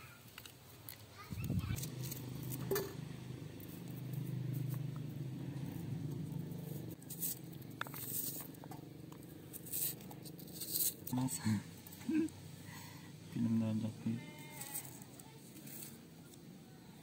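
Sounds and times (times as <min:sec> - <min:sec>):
steady low hum: 0:01.3 - 0:17.0.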